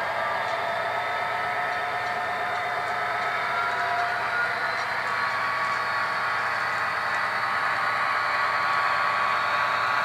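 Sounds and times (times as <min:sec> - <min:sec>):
model train motor whirring: 0:00.3 - 0:10.0.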